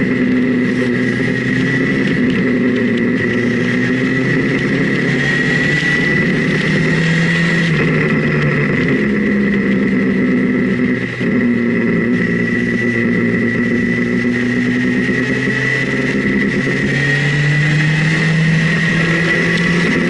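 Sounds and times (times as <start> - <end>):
motorcycle engine running: 0.0 - 20.0
steady high whine: 0.0 - 20.0.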